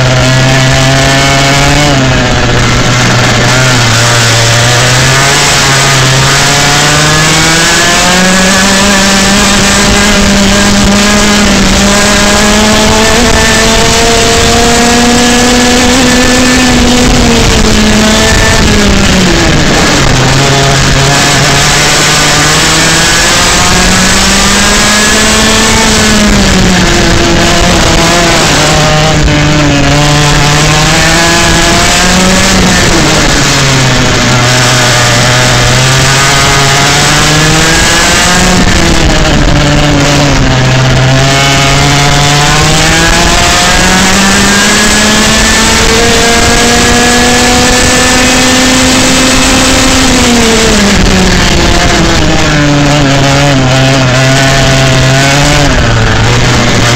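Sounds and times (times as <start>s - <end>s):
kart engine revving: 0.0s - 56.9s.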